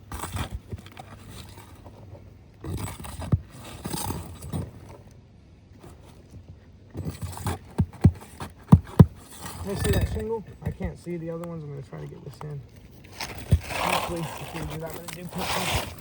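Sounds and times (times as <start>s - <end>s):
shingles scraping and tearing: 0.0s - 5.1s, 7.0s - 16.0s.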